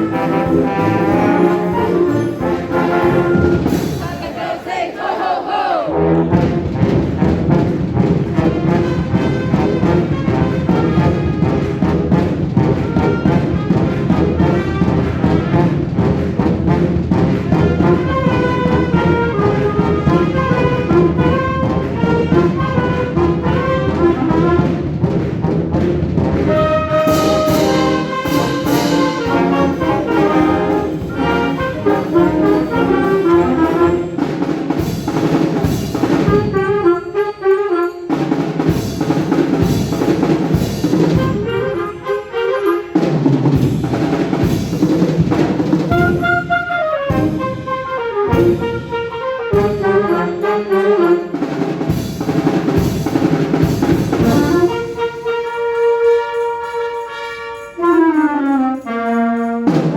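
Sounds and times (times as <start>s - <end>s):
concert wind band playing: 0.0s - 59.9s.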